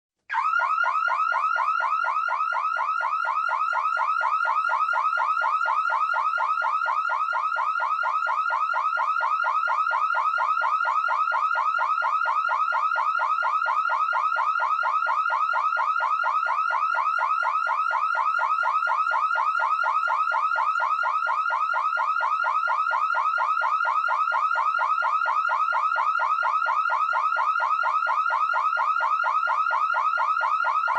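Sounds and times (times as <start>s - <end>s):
electronic alarm siren chirping: 0.3s - 30.9s.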